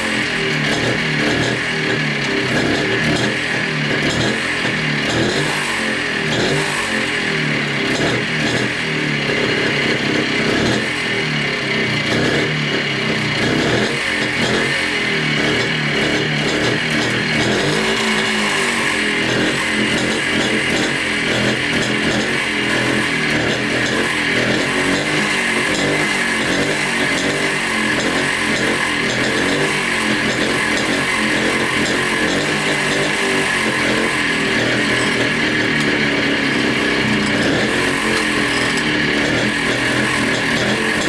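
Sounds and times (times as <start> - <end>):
two-stroke engine running: 0.0 - 41.0.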